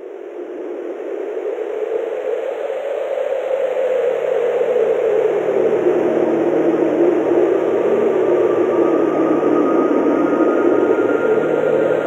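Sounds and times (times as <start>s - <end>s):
strong wind through forest: 0.0s - 12.0s.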